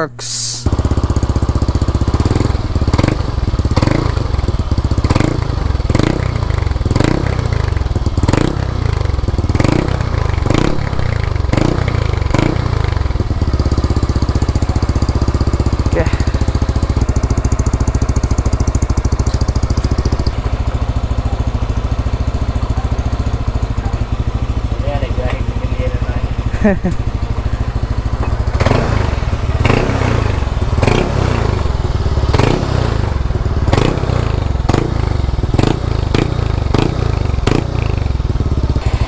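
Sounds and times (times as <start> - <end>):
scooter engine revving and idling: 0.6 - 39.0.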